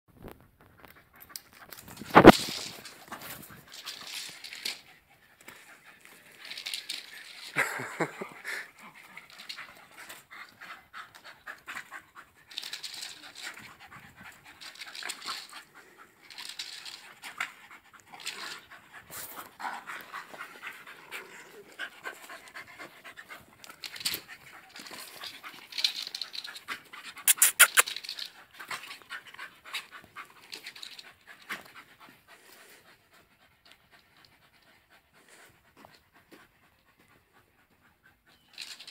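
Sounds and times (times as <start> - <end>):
dogs panting: 0.8 - 38.9.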